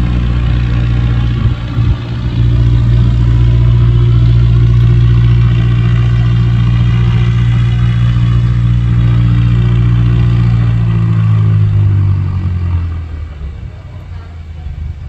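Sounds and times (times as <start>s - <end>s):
engine running with low hum: 0.0s - 15.0s.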